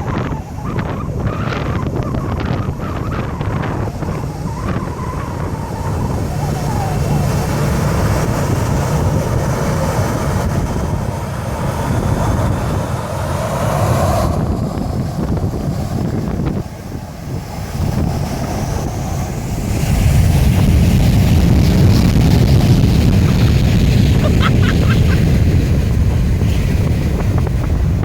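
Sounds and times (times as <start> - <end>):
jet engines at high thrust: 0.0 - 28.0
wind buffeting microphone: 0.0 - 28.0.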